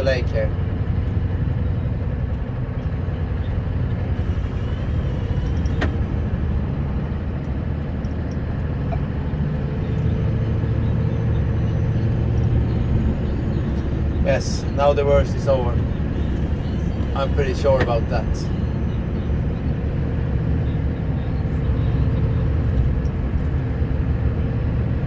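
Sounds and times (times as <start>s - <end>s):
truck engine and tyre drone: 0.0s - 25.0s.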